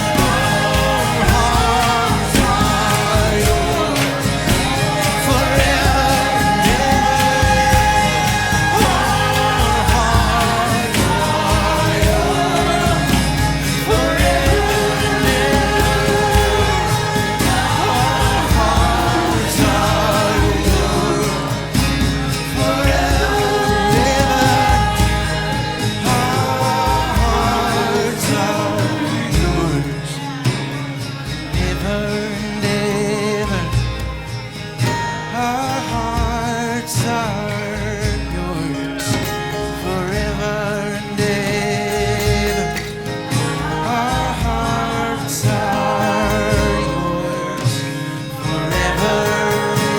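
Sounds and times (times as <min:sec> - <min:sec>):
band playing a steady beat: 0:00.0 - 0:49.9
singers holding long notes: 0:00.0 - 0:49.9.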